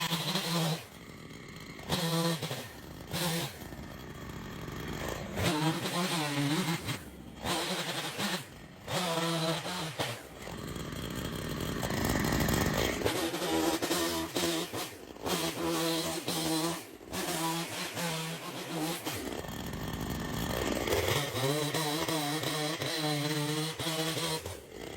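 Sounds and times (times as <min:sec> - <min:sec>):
chainsaw revving: 0:00.0 - 0:24.9.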